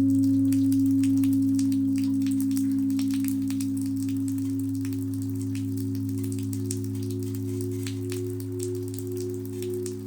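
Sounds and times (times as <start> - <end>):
singing bowl drone: 0.0 - 10.0.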